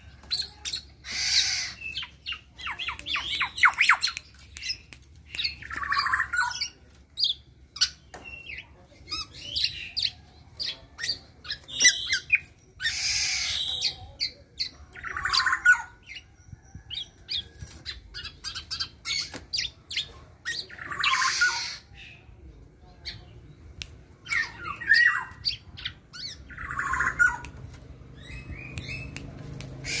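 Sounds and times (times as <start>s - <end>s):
bird chirps and clicks: 0.1s - 8.6s, 9.6s - 21.2s, 23.0s - 30.0s.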